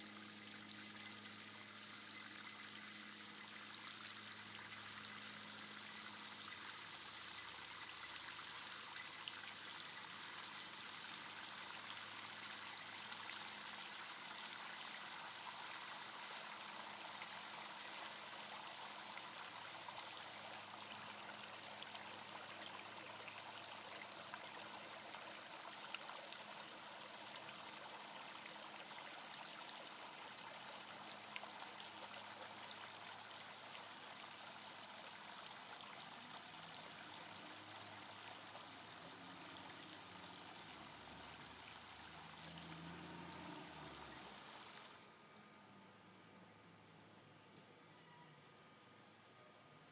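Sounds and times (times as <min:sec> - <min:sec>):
water trickling: 0:00.0 - 0:45.0.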